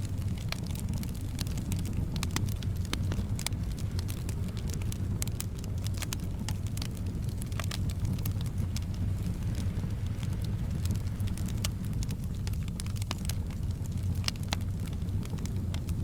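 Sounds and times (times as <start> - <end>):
soft wind rumble: 0.0 - 16.0
wood fire crackling: 0.0 - 16.0.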